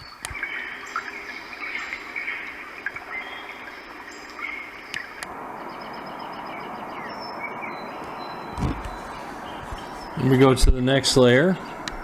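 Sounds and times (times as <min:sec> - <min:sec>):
recorded birdsong chirping: 0:00.0 - 0:12.0
rushing noise: 0:00.6 - 0:12.0.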